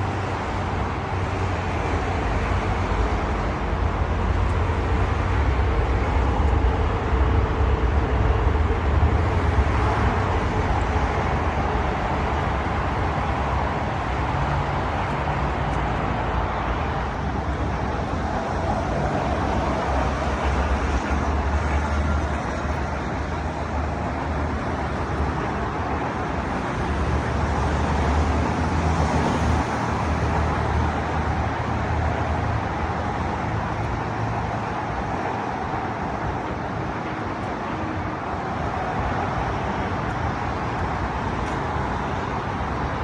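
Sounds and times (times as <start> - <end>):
car engine rumble: 0.0 - 43.0
road noise: 0.0 - 43.0.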